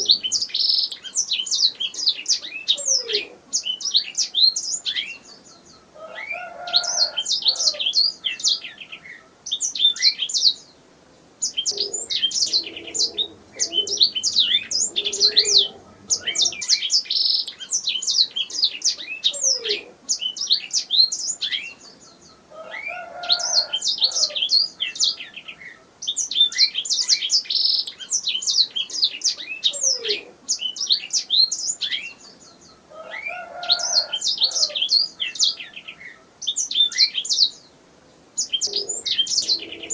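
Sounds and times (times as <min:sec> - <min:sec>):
canary singing chirps and trills: 0:00.0 - 0:10.8, 0:11.4 - 0:37.8, 0:38.4 - 0:39.9.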